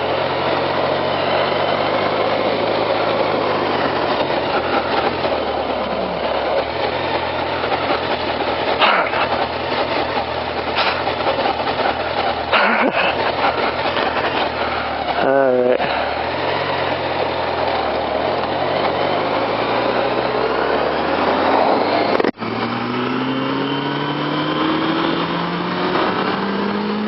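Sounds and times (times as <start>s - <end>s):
small vehicle engine running: 0.0s - 27.0s.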